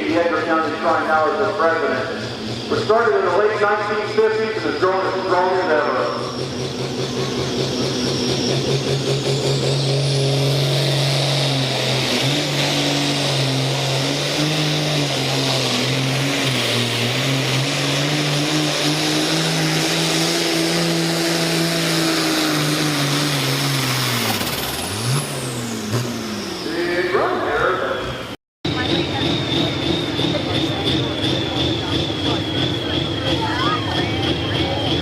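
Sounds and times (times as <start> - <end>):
high engine whine: 0.0 - 35.0
tractor engine running hard: 0.0 - 35.0.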